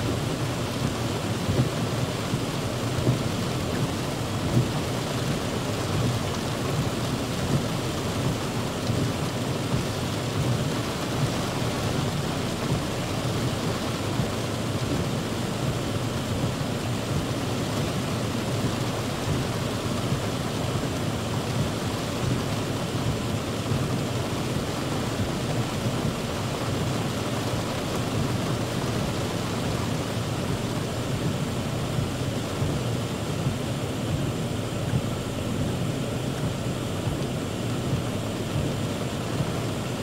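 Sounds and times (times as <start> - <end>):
heavy rain on car roof: 0.0 - 40.0.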